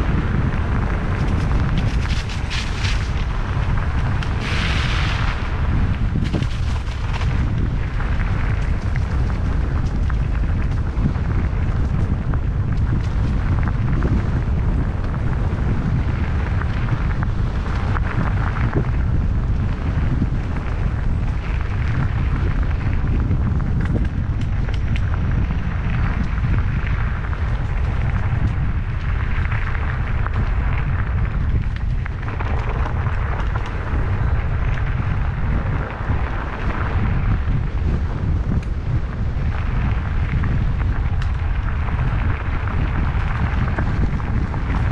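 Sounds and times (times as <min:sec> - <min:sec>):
bicycle tyre noise: 0:00.0 - 0:44.9
small rattles and ticks: 0:00.0 - 0:44.9
wind buffeting microphone: 0:00.0 - 0:44.9.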